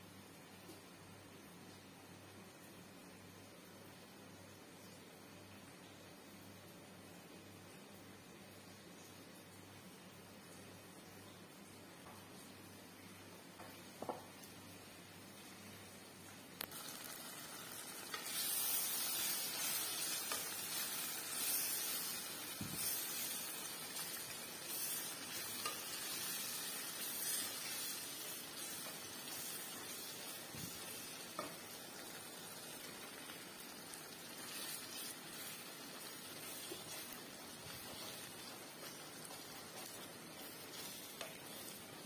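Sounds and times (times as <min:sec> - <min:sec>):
sauce sizzling and bubbling in a pot: 0:00.3 - 0:42.0.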